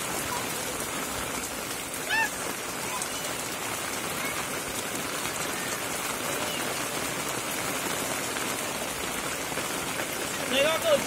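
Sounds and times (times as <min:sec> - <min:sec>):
rain on plastic sheeting: 0:00.0 - 0:11.0.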